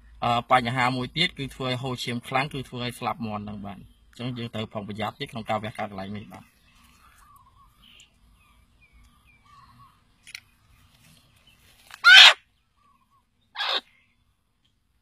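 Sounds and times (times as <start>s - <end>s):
small birds twittering: 0.0s - 14.5s
harsh bird calls: 2.3s - 14.3s.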